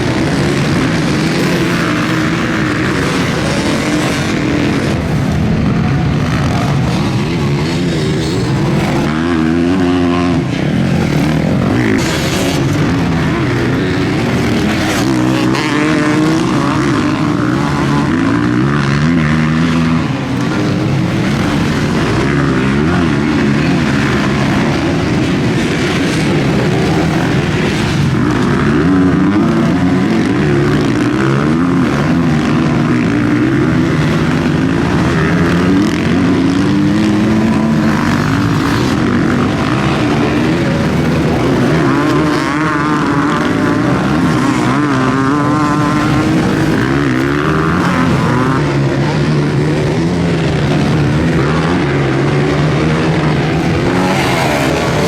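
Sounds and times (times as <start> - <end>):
motocross bike engines racing: 0.0 - 55.0.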